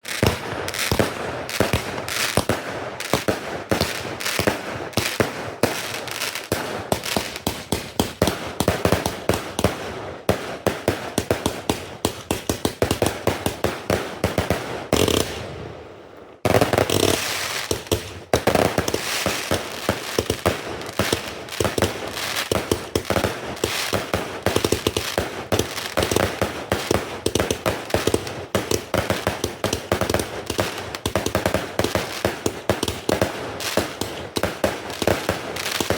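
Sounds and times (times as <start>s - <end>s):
fireworks cracking and banging: 0.0s - 15.7s, 16.4s - 35.9s.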